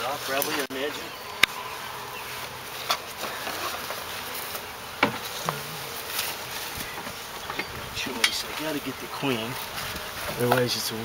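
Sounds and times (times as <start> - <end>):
bees buzzing: 0.5 - 11.0.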